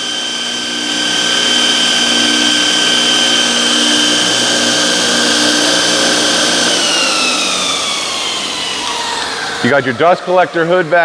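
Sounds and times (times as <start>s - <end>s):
belt grinder whining: 0.0s - 11.0s.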